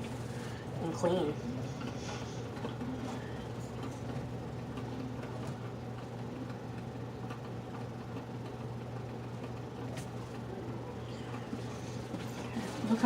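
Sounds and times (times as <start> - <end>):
coffee maker humming: 0.0 - 13.0.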